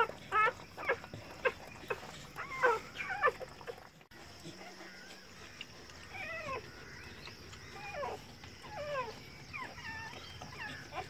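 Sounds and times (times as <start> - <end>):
puppies crying: 0.0 - 11.0.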